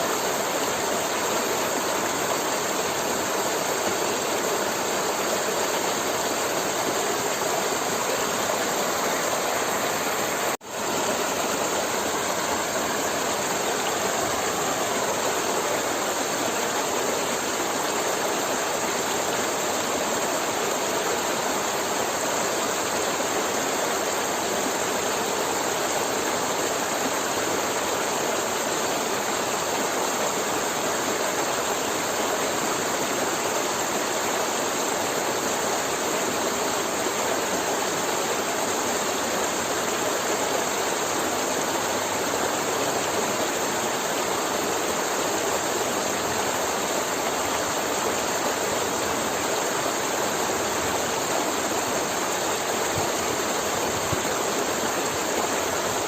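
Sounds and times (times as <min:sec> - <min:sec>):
forest river flowing: 0:00.0 - 0:56.0.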